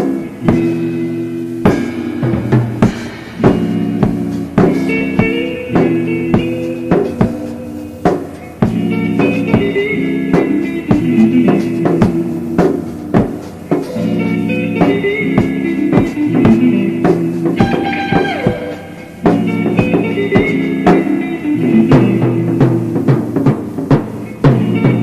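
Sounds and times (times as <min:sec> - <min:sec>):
drum kit: 0:00.0 - 0:25.0
guitar chords: 0:00.0 - 0:25.0.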